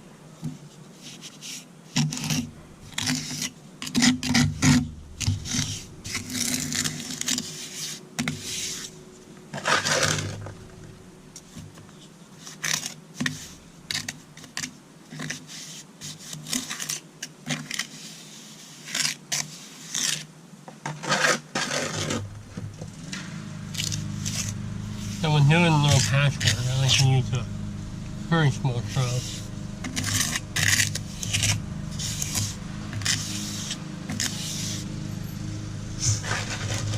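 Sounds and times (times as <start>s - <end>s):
hand tool scraping concrete: 1.0s - 10.5s, 12.4s - 20.3s, 20.9s - 22.3s, 23.0s - 27.4s, 28.3s - 34.9s, 36.0s - 36.9s.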